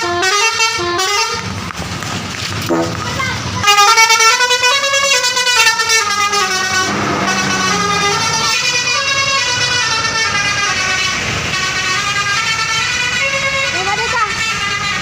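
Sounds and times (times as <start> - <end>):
bus multi-tone horn tune: 0.0 - 1.6, 2.7 - 15.0
engine noise: 0.8 - 15.0.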